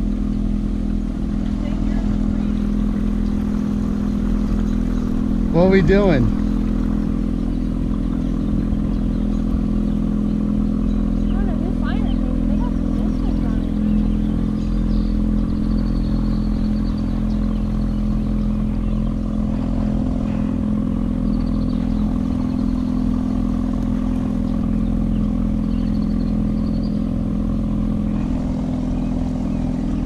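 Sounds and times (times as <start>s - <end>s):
motor droning: 0.0s - 30.0s.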